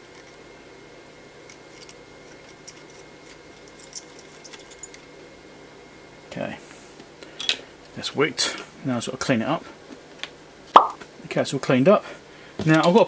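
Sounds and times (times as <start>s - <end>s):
steady faint hum: 0.0s - 13.0s.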